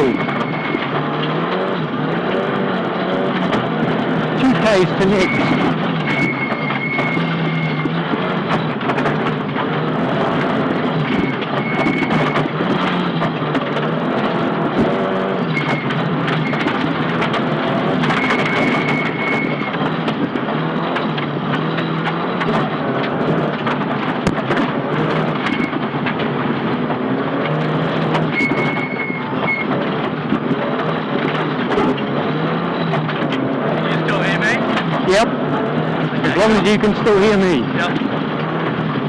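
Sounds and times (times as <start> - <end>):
car engine running hard: 0.0 - 39.0.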